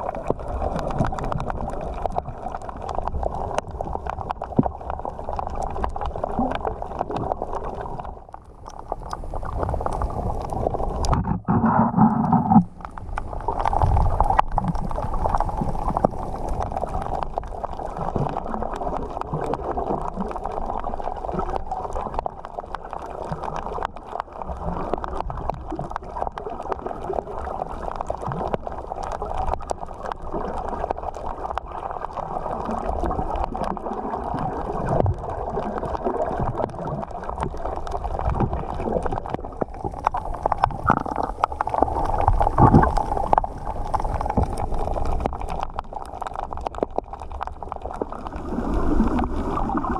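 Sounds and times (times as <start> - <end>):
muffled underwater water rush: 0.0 - 49.9
small underwater clicks: 0.0 - 49.9.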